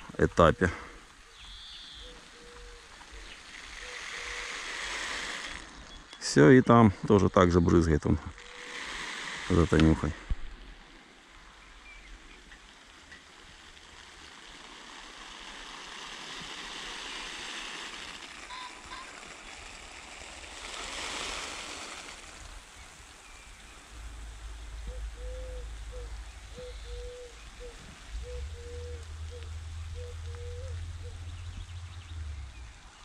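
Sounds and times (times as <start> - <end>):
sprinkler spray hissing on soil: 0.0 - 33.0.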